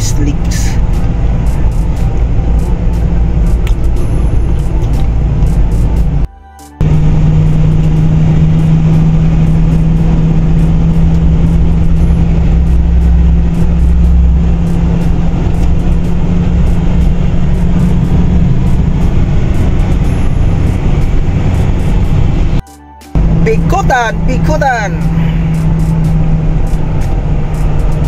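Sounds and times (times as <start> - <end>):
car engine drone: 0.0 - 28.0.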